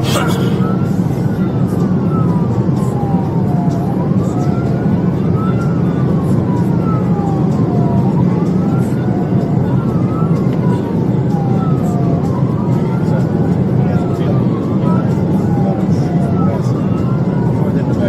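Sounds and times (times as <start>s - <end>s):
car engine and road noise: 0.0s - 18.0s
police siren wailing: 0.0s - 18.0s.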